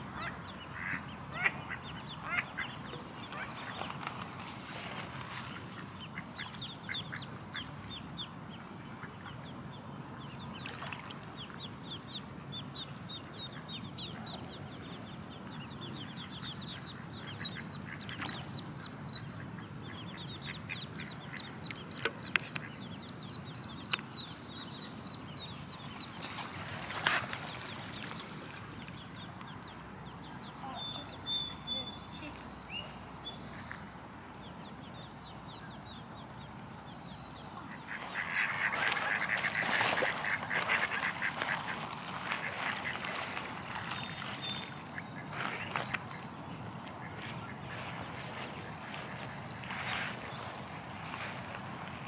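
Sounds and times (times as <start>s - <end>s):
ducklings peeping: 0.1s - 4.2s, 5.5s - 10.6s, 11.4s - 26.4s, 29.0s - 51.9s.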